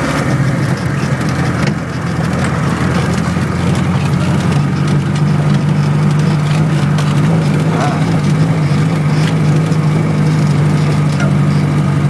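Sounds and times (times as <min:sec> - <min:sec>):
vehicle engine running at low revs: 0:00.0 - 0:12.0
light knocks and rattles: 0:00.3 - 0:12.0.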